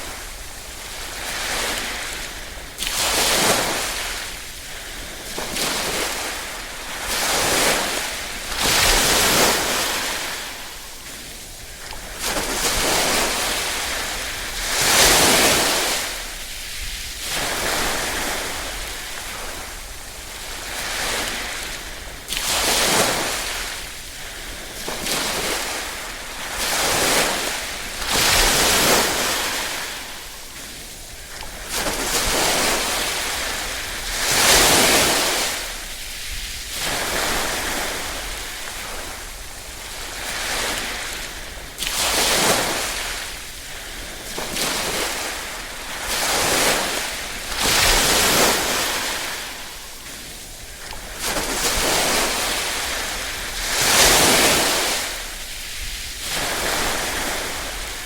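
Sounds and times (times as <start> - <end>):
small waves lapping: 0.0 - 58.0.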